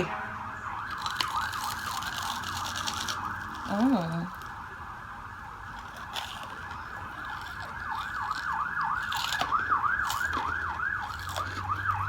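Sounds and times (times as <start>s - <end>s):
siren yelping: 0.0s - 12.0s.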